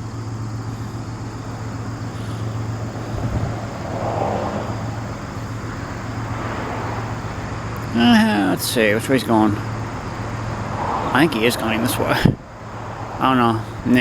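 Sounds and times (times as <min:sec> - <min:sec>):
low engine hum: 0:00.0 - 0:14.0
outdoor traffic noise: 0:00.0 - 0:14.0
vehicle passing: 0:00.0 - 0:14.0.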